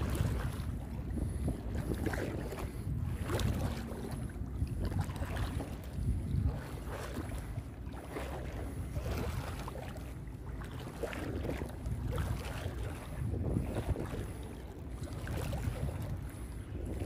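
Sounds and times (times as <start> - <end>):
water sloshing around wading legs: 0.0 - 17.0
wind rumbling on microphone: 0.0 - 17.0.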